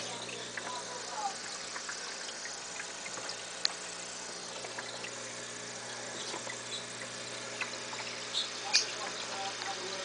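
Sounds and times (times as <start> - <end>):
aquarium equipment humming: 0.0 - 10.0.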